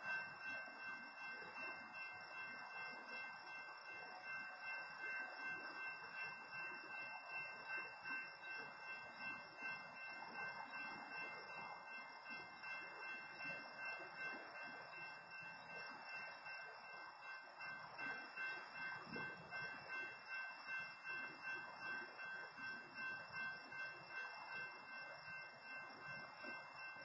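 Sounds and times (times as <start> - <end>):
railroad crossing bell ringing: 0.0 - 27.0.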